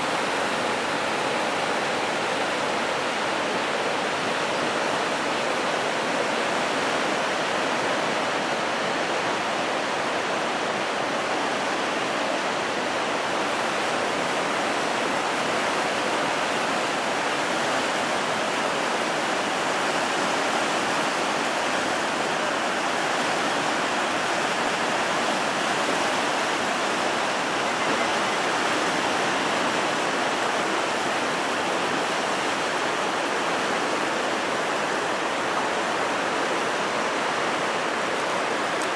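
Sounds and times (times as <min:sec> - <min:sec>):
river rapids roaring: 0:00.0 - 0:38.9.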